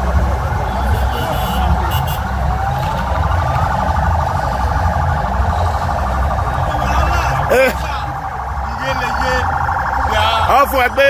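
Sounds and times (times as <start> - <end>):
low rumble: 0.0 - 10.2
fast warbling siren: 0.0 - 11.0
wailing siren: 0.0 - 11.0.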